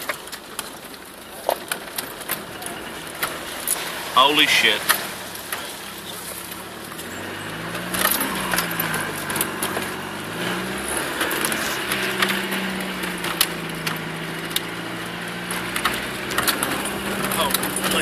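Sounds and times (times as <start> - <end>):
diesel engine pulling at low revs: 0.0 - 18.0
knocks and creaks from vehicle body: 0.0 - 18.0.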